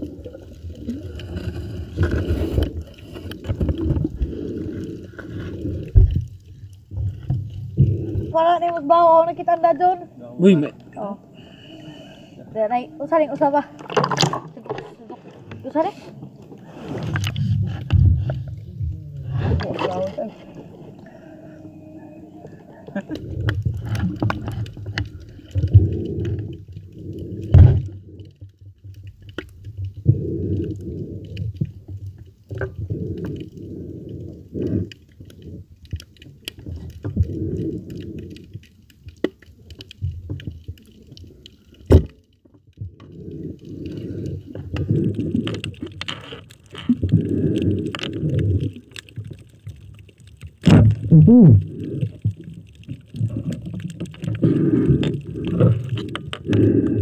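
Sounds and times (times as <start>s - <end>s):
muffled underwater water sloshing: 0.0s - 57.0s.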